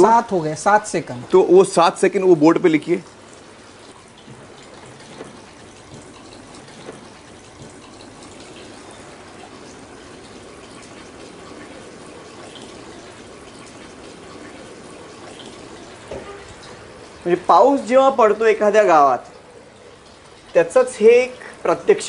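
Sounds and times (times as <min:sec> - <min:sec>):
water pouring over soil: 0:00.1 - 0:22.0
water splashing into bucket: 0:00.8 - 0:22.0.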